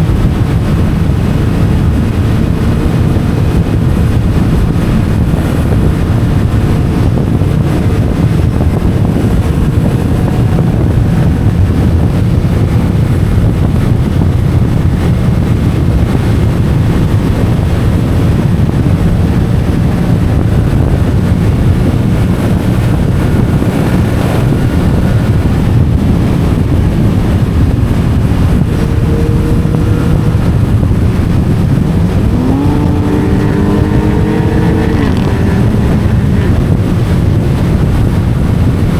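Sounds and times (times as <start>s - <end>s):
motorcycle engine droning: 0.0s - 38.9s
rushing wind: 0.0s - 38.9s.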